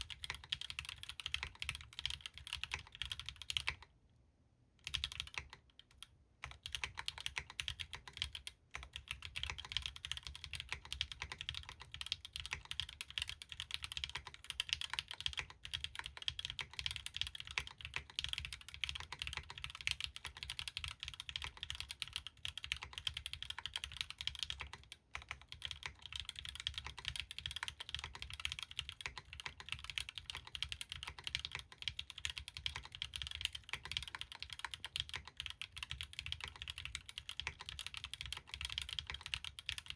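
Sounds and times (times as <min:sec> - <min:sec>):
fast mechanical keyboard typing: 0:00.0 - 0:03.9, 0:04.8 - 0:39.9.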